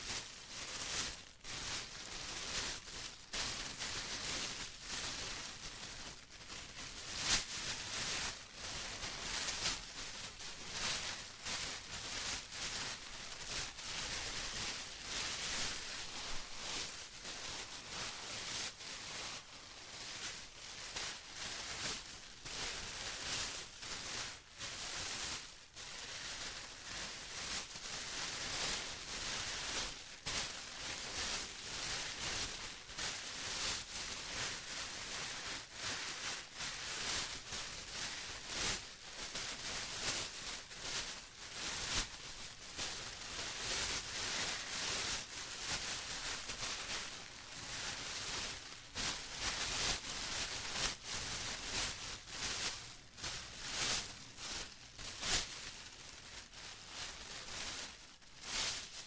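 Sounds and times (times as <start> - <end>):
plastic crinkling: 0.0 - 32.2, 33.0 - 59.0.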